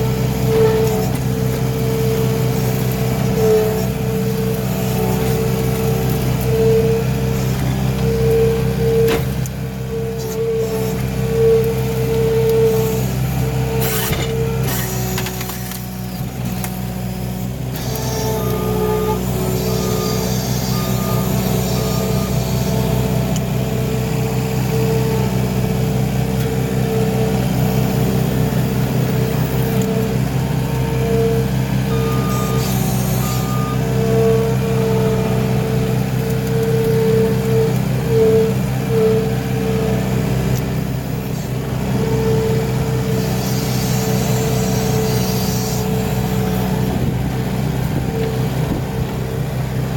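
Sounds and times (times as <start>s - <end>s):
skid steer engine running: 0.0s - 49.9s.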